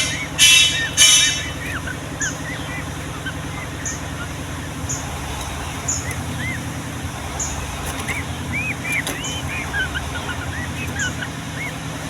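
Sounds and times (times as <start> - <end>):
bird singing chirps: 0.0 - 12.0
steady low hum: 0.0 - 12.0.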